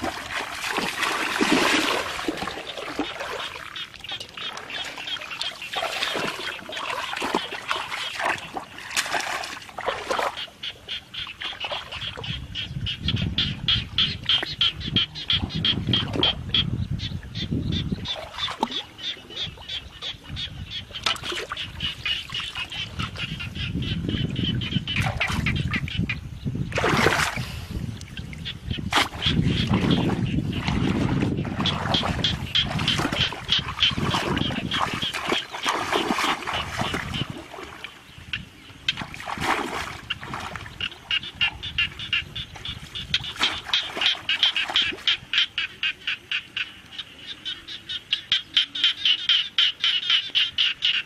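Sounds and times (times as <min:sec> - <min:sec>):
water sloshing and splashing: 0:00.0 - 0:16.6, 0:18.0 - 0:26.1, 0:26.7 - 0:45.5.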